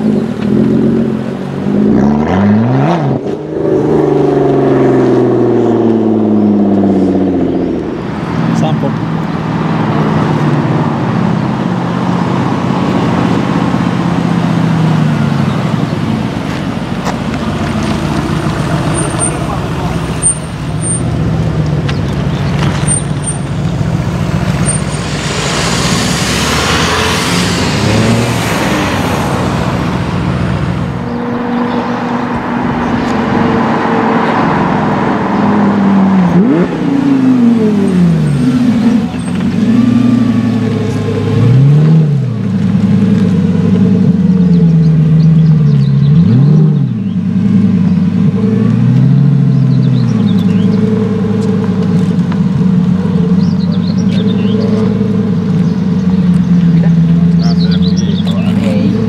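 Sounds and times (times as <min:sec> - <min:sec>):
car engines rumbling and accelerating: 0:00.0 - 0:59.0
sports car engine revving: 0:00.0 - 0:59.0.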